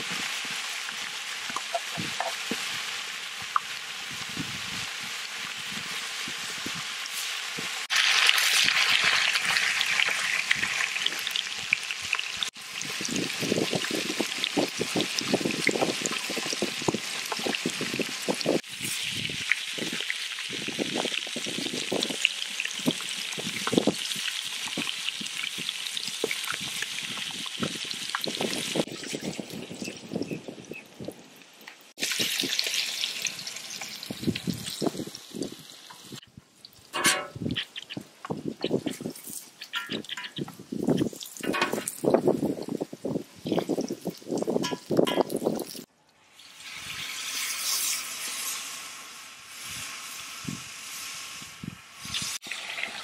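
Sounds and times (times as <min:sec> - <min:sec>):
chicken sizzling in oil: 0:00.0 - 0:30.8, 0:31.9 - 0:36.2, 0:38.6 - 0:53.0.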